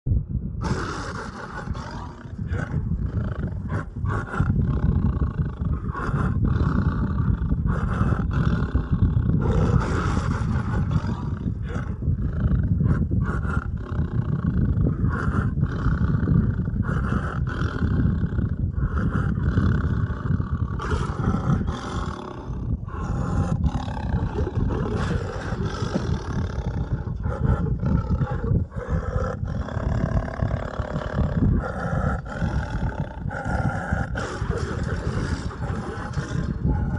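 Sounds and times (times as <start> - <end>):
deep rough roaring: 0.6 - 36.9.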